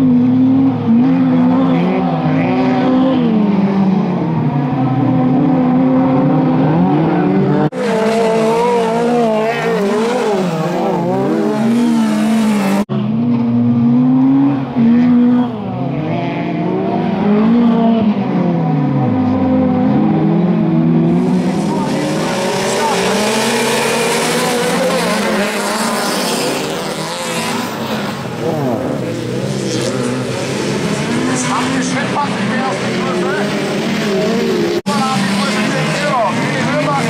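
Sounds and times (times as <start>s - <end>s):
racing car engines revving: 0.0s - 37.0s.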